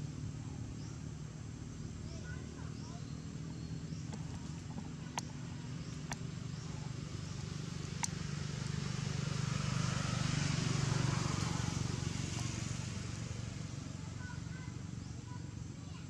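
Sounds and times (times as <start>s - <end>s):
distant engine hum: 0.0s - 16.0s.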